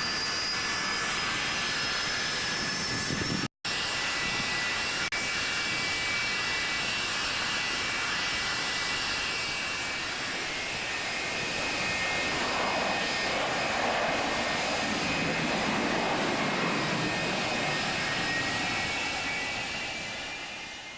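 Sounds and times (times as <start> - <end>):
jet engine roar: 0.0 - 20.9.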